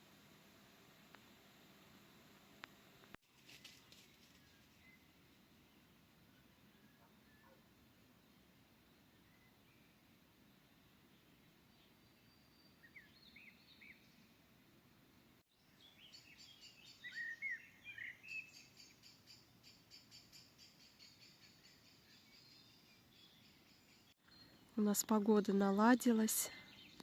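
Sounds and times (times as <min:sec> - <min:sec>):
songbirds chirping: 0:02.3 - 0:27.0.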